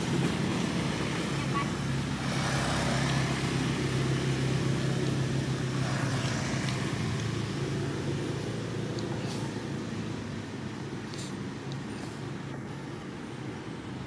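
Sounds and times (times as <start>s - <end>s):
vehicle engine running: 0.0s - 13.7s
outdoor background noise: 0.0s - 14.0s.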